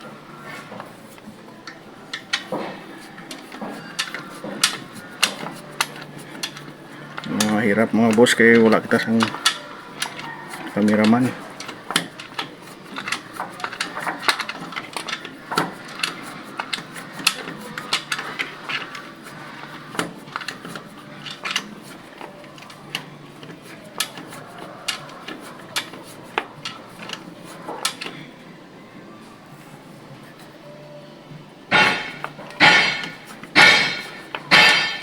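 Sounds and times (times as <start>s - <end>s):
hand tools clinking on metal: 0.5s - 28.3s, 31.7s - 35.0s.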